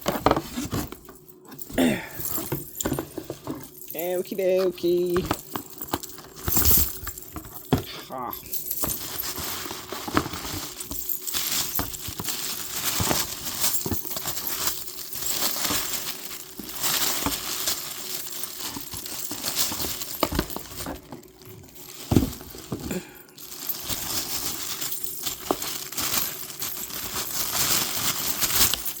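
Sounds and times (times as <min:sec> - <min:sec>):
cardboard box packaging rustling: 0:00.0 - 0:01.4, 0:02.2 - 0:29.0.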